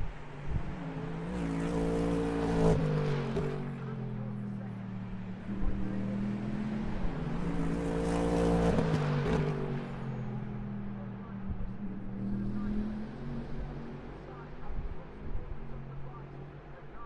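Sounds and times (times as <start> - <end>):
race car engines droning: 0.0 - 17.0
race car passing by: 0.0 - 17.0.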